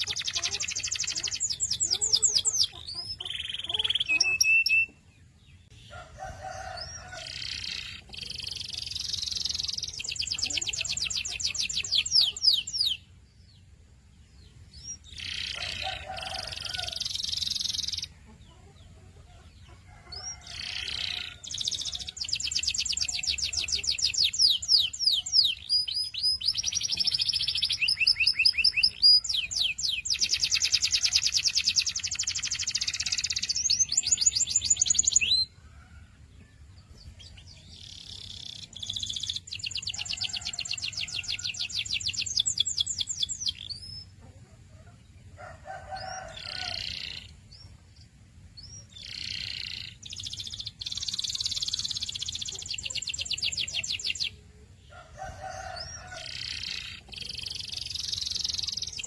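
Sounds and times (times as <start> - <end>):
canary singing trills: 0.0 - 35.8, 36.8 - 59.0.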